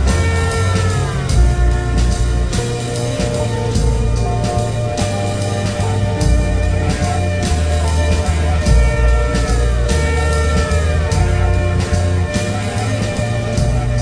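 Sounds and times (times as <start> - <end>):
falling pitch glides: 0.0 - 14.0
rock music with guitar and drums: 0.0 - 14.0.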